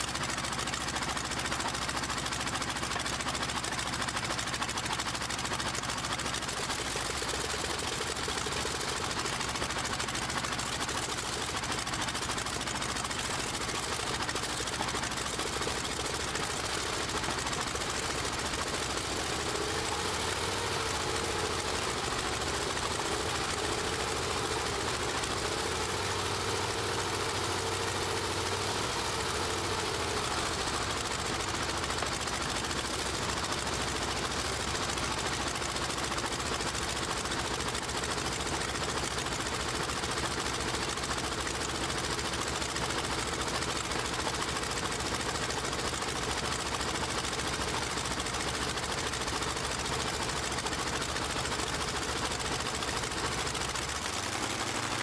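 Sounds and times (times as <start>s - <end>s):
radial aircraft engine running: 0.0s - 55.0s.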